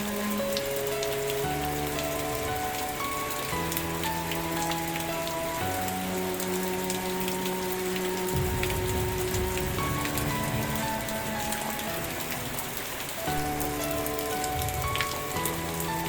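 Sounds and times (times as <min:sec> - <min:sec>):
rain pattering: 0:00.0 - 0:16.0
soft sustained musical chords: 0:00.0 - 0:16.0.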